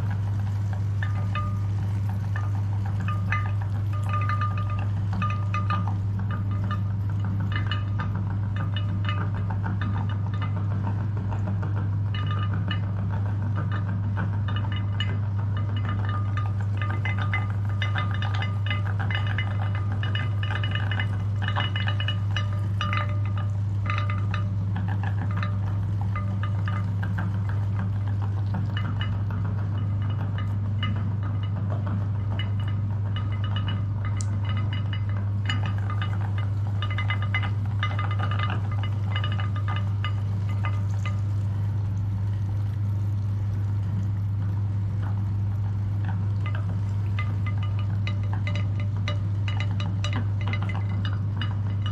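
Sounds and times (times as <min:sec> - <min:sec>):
clicking and crackling: 0:00.0 - 0:51.9.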